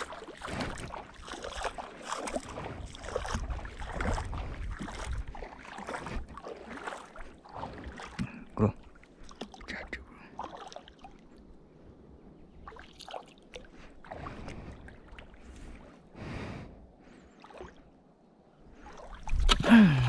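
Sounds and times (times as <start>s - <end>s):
shallow water sloshing: 0.0s - 20.0s.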